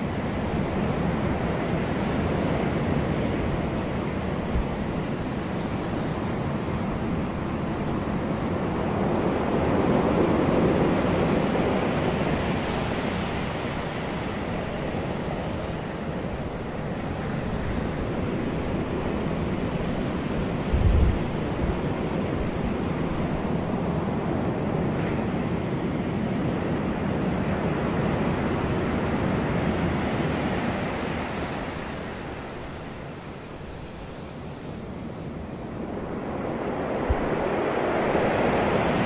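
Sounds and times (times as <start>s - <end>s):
ocean waves breaking on beach: 0.0s - 39.0s.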